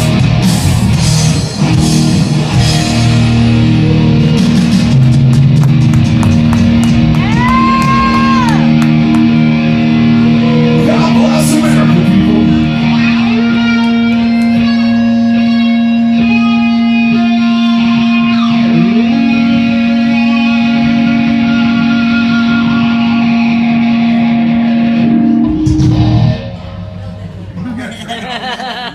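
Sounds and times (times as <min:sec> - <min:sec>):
live rock band: 0:00.0 - 0:27.1
lead guitar bends and runs: 0:00.0 - 0:27.5.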